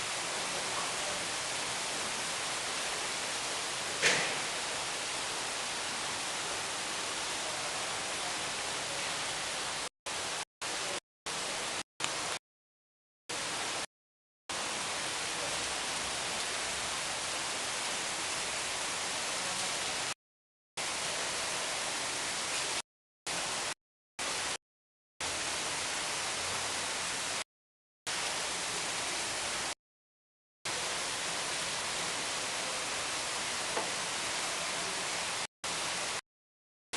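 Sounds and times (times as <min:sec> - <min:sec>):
water falling from waterfall: 0:00.0 - 0:12.4, 0:13.3 - 0:13.9, 0:14.5 - 0:20.2, 0:20.8 - 0:24.6, 0:25.2 - 0:27.4, 0:28.1 - 0:29.8, 0:30.7 - 0:36.2.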